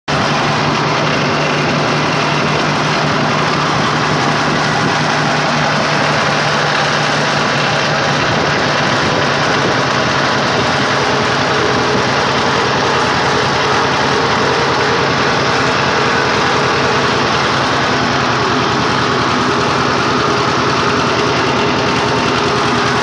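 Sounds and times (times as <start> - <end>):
tractor engine running: 0.1 - 23.0.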